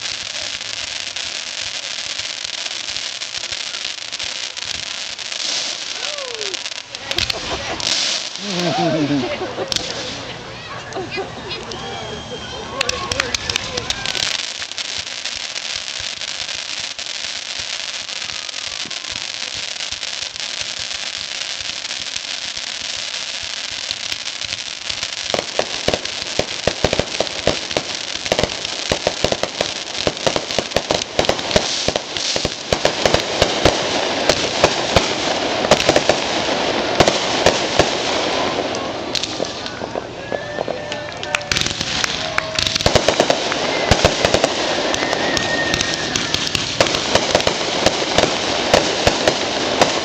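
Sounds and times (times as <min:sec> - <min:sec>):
firework crackling pops: 0:00.0 - 0:11.0, 0:12.8 - 0:50.0
firework fountain hissing: 0:00.0 - 0:50.0.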